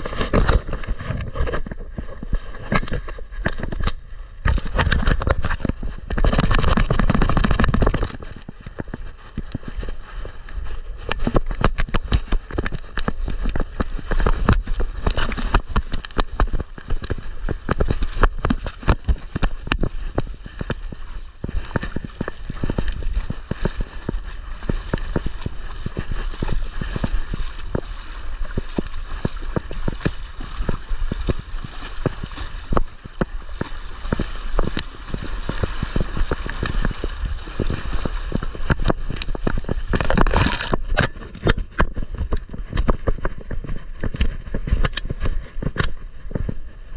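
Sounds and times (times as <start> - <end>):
wind rumble: 0.0 - 46.9.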